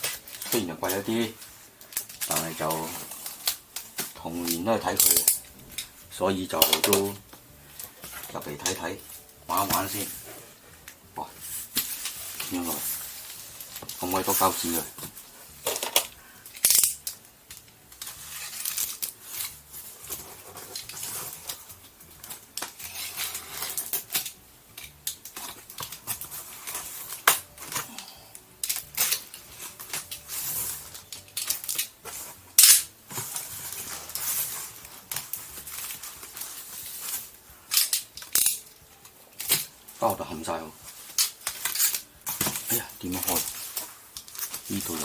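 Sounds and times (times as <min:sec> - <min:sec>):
packaging rustling and scraping: 0:00.0 - 0:45.0.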